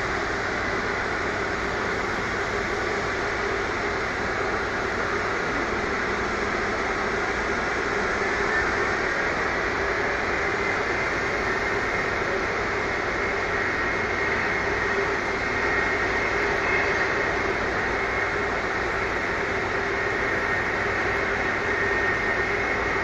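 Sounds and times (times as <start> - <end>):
jet engines running with whine: 0.0 - 23.0.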